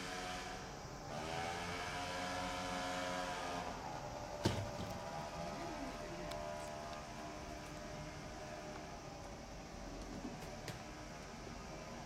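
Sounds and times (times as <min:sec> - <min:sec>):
faint steady hum: 0:00.0 - 0:12.0
train motors whining: 0:00.0 - 0:12.0.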